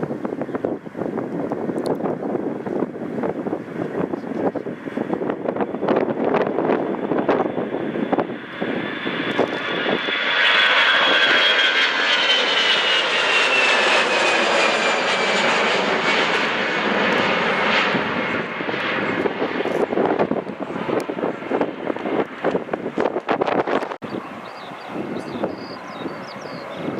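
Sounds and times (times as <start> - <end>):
jet engine roar: 0.0 - 26.9.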